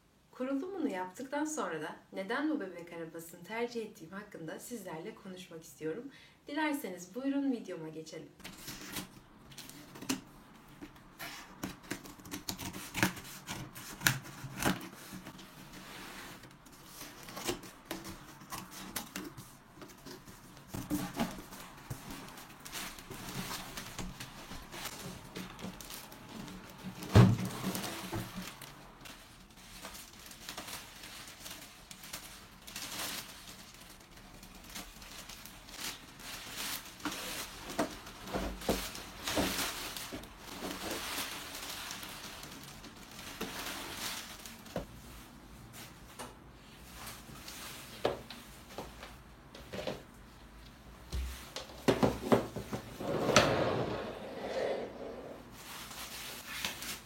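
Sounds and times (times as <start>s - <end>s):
rustling wrapping and cardboard: 8.4s - 57.0s.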